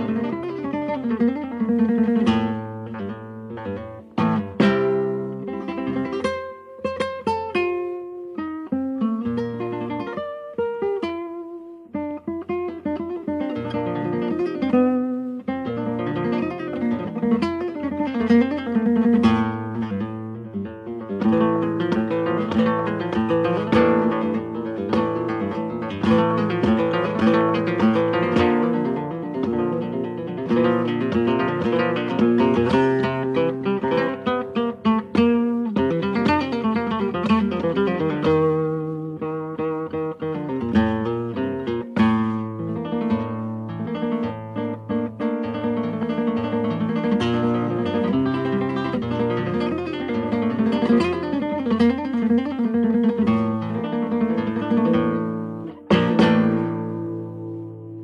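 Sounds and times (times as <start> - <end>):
flamenco acoustic guitar: 0.0 - 58.0.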